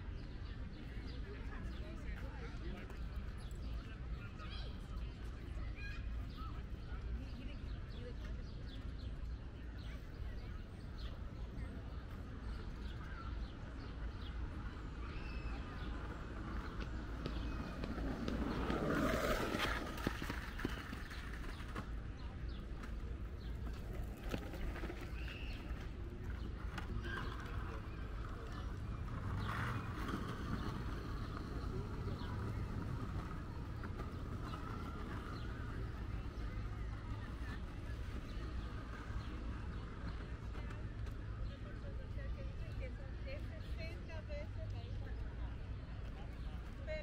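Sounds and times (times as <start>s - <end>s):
faint voices: 0.0s - 47.0s
songbirds chirping: 0.0s - 47.0s
distant traffic rumble: 0.3s - 47.0s.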